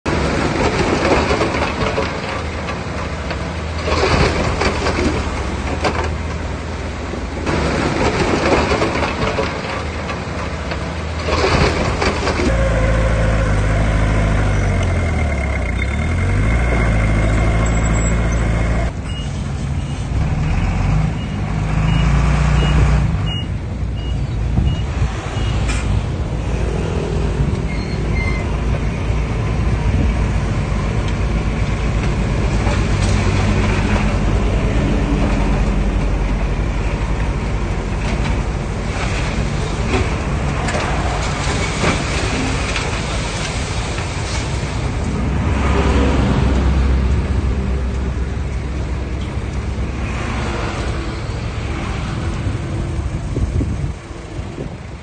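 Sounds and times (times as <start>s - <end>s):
diesel machinery engines revving: 0.1s - 55.0s.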